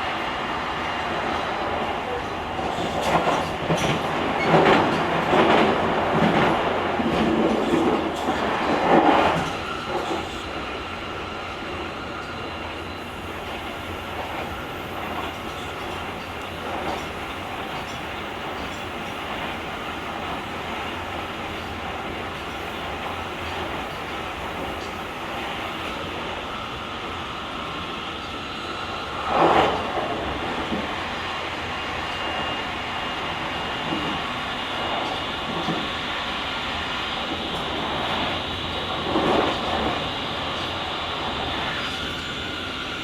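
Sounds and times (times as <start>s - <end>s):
electric train rumbling: 0.0s - 43.0s.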